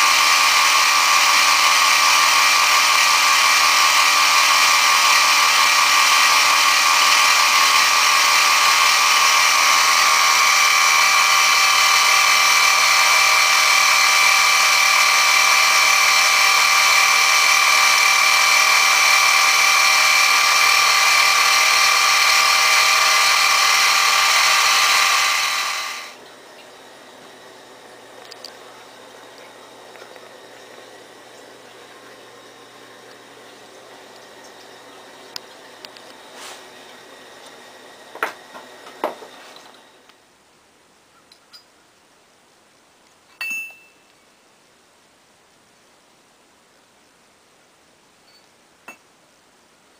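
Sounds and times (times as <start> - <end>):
milling machine whine: 0.0 - 40.2.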